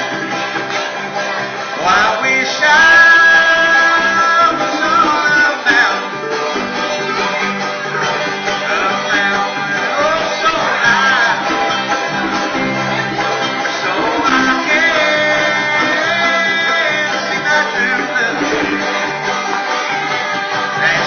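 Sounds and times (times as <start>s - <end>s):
bluegrass string band playing: 0.0s - 21.0s.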